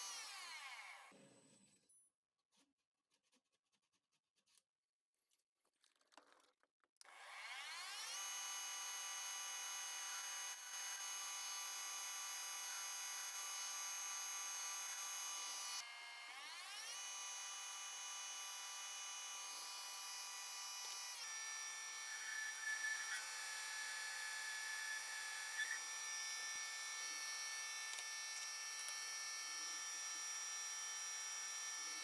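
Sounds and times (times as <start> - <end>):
metal lathe motor whine: 0.0 - 1.1, 7.1 - 32.0.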